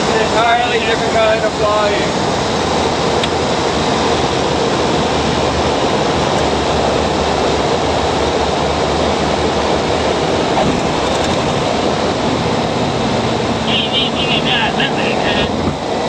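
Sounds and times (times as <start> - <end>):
turboprop engine drone: 0.0 - 16.0.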